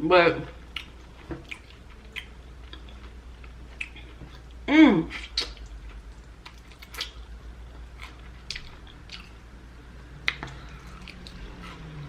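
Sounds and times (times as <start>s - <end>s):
wet chewing and biting: 0.7s - 4.5s, 5.2s - 9.4s, 10.2s - 12.0s.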